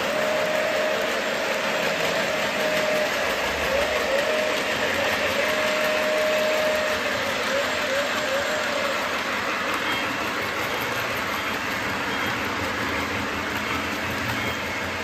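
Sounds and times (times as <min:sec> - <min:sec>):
model train wheels rattling on track: 0:00.0 - 0:15.0.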